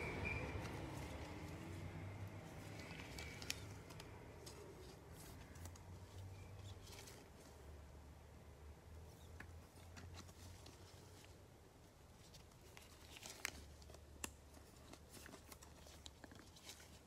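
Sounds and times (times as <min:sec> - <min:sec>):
cards and plastic holder handled: 0:00.0 - 0:07.6, 0:09.1 - 0:11.4, 0:12.1 - 0:17.0.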